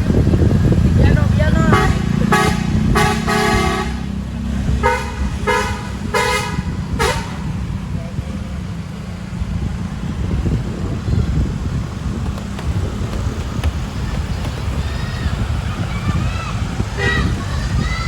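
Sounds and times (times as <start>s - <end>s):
low rumble of engines and traffic: 0.0s - 18.0s.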